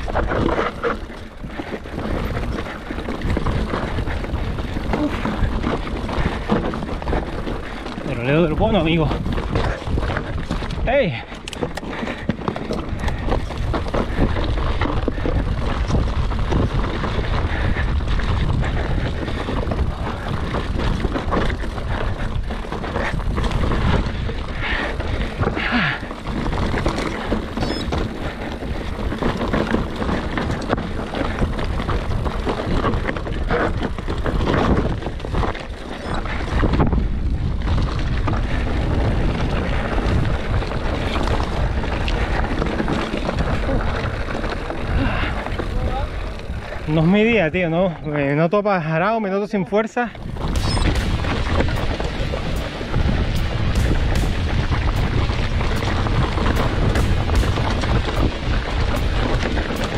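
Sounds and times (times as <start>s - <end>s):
wind buffeting microphone: 0.0s - 48.2s, 50.0s - 59.9s
bike knocking and rattling over stones: 0.0s - 49.0s, 49.9s - 59.9s.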